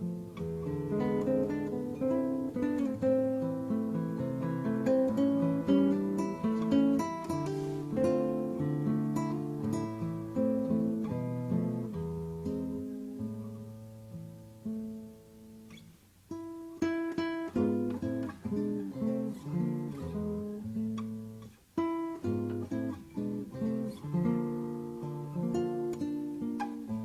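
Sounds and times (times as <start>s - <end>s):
acoustic guitar music: 0.0s - 27.0s.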